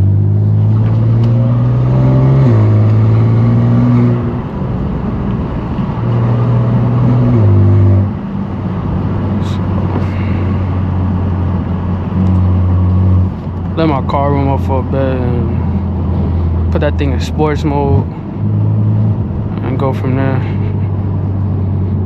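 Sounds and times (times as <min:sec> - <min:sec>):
car exhaust droning: 0:00.0 - 0:22.0.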